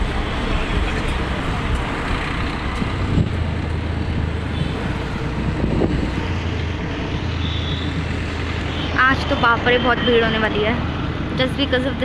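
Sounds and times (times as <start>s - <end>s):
road traffic rumble: 0.0s - 12.0s
wind buffeting microphone: 0.0s - 12.0s.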